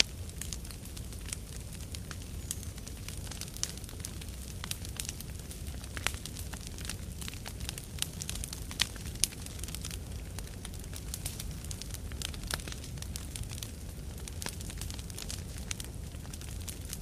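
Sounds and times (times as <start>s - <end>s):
low rumble of flames: 0.0s - 17.0s
sharp pops of fire: 0.0s - 17.0s
wood crackling and snapping: 0.0s - 17.0s.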